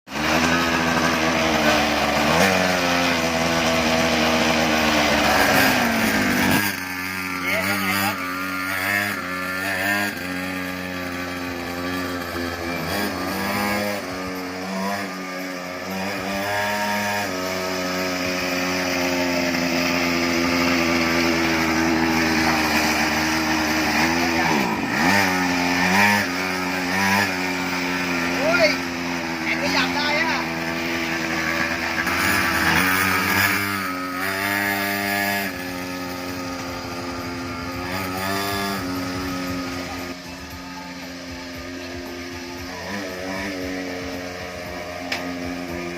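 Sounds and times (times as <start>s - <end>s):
small engine buzzing: 0.1s - 45.9s.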